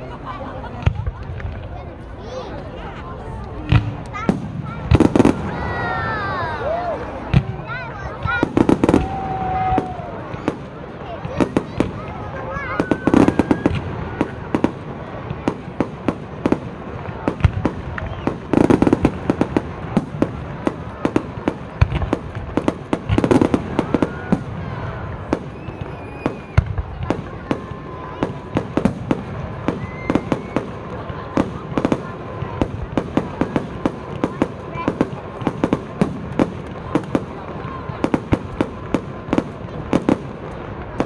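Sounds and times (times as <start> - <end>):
fireworks bangs and crackles: 0.0 - 41.0
fireworks booms: 0.6 - 1.7, 3.5 - 41.0.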